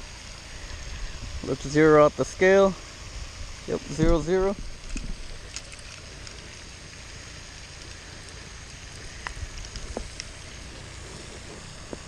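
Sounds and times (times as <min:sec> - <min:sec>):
fountain spray falling on water: 0:00.0 - 0:12.0.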